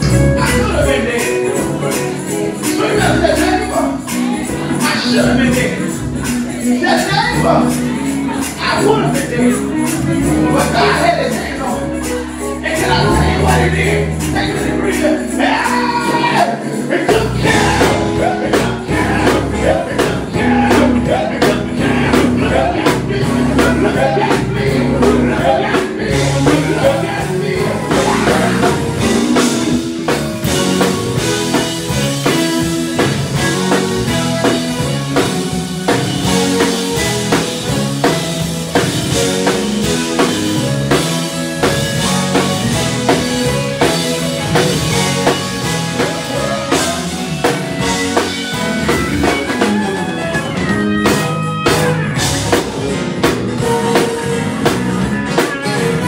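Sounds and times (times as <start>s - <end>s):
person singing: 0.0s - 51.8s
drum kit: 0.0s - 56.0s
electric bass: 0.0s - 56.0s
electric guitar: 0.0s - 56.0s
keyboard: 0.0s - 56.0s.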